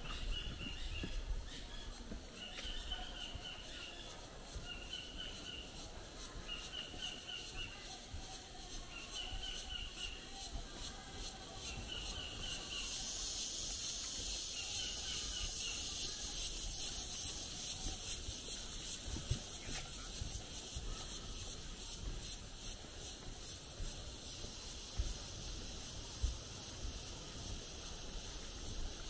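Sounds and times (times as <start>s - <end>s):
insects singing: 0.0s - 29.0s.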